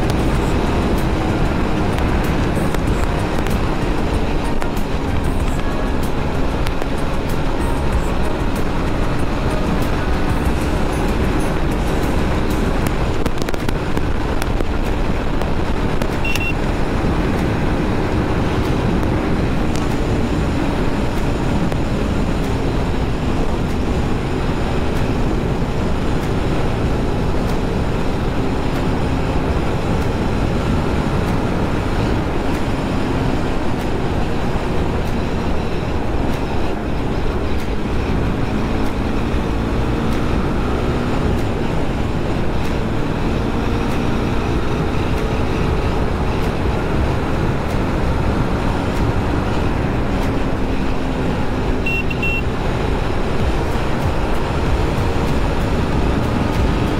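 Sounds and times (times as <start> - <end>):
motorcycle engine droning: 0.0 - 56.9
wind rushing over microphone: 0.0 - 56.9.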